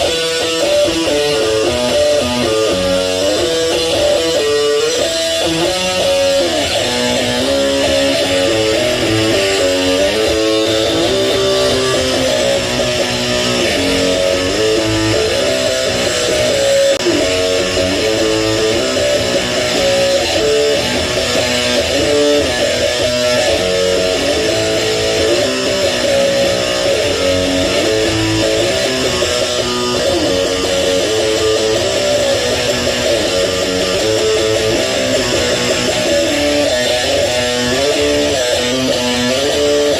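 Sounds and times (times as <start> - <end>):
electric guitar single notes: 0.0 - 39.9.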